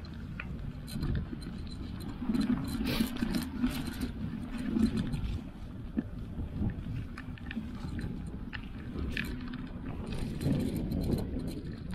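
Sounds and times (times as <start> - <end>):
bike clicks and rattles: 0.0 - 11.9
wind: 0.0 - 11.9
bike tyres rumbling on dirt: 2.0 - 11.9.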